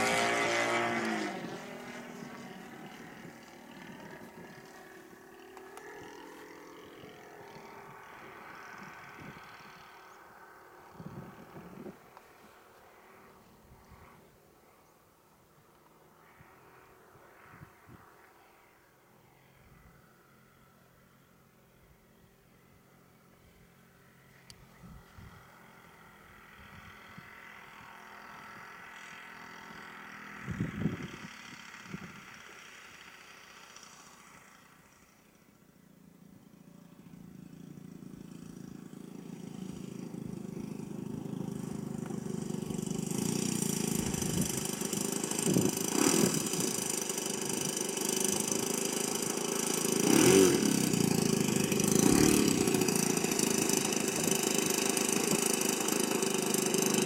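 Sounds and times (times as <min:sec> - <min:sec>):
model airplane engine running: 0:00.0 - 0:57.0.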